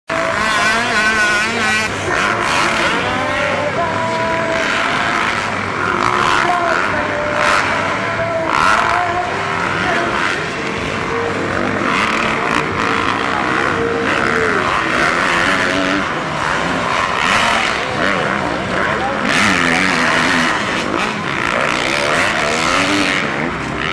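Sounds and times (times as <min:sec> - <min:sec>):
motocross engines revving: 0:00.1 - 0:23.9.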